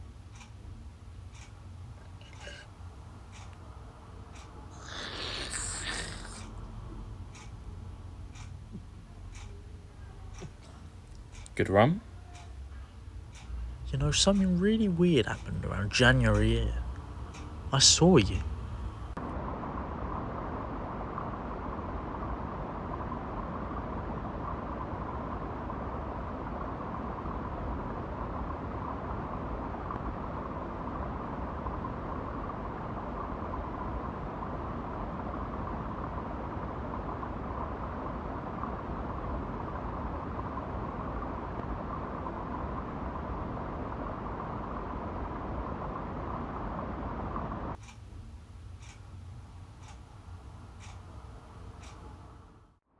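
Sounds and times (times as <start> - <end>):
faint hum: 0.0 - 52.9
rumbling noise drone: 4.6 - 9.0, 13.6 - 52.8.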